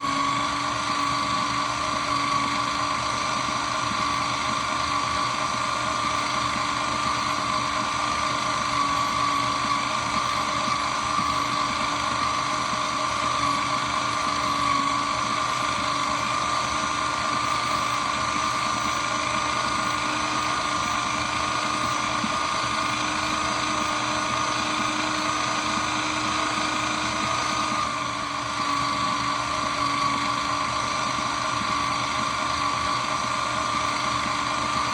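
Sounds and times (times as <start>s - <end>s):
shredder motor whine and hum: 0.0s - 34.9s.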